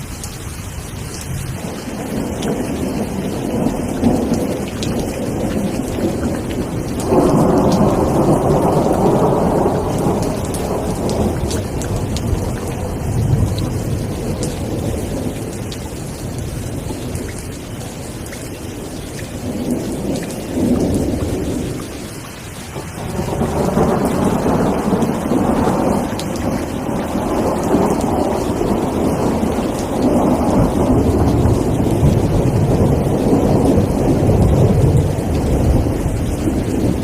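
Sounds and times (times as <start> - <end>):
steady rain: 0.0 - 37.0
rolling thunder: 1.2 - 22.2, 22.8 - 37.0.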